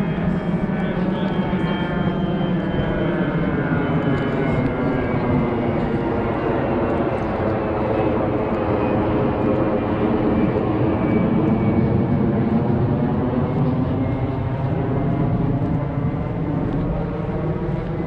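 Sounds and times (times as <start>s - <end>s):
steady engine drone: 0.0s - 18.0s.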